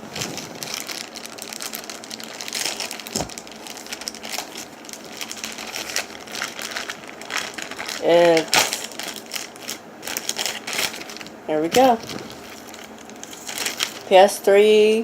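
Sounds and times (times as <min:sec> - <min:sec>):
packaging crackling and rustling: 0:00.0 - 0:14.2.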